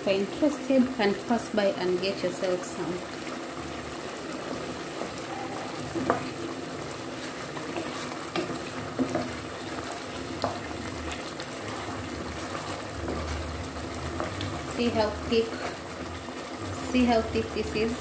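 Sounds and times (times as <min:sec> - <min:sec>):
sauce simmering and sizzling: 0:00.0 - 0:18.0
wooden spoon stirring: 0:02.3 - 0:18.0.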